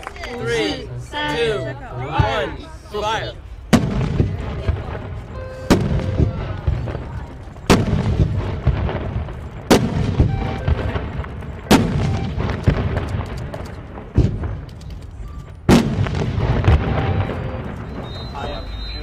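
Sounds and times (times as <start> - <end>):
firework bangs: 3.7 - 19.0.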